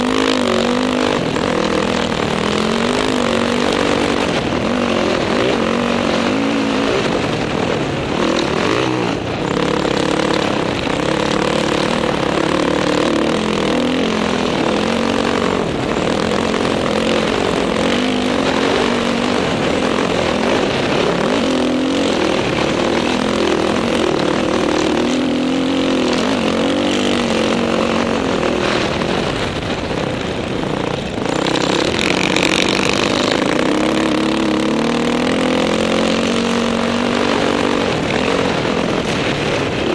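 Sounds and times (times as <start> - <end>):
dirt bike engine revving: 0.0 - 39.9
wind noise on microphone: 0.0 - 39.9.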